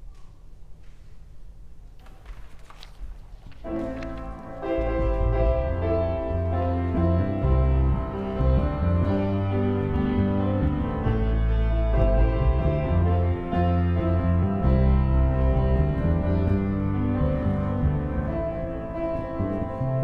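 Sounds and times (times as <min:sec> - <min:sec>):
piano: 0:00.0 - 0:20.0
bass low notes: 0:03.8 - 0:20.0.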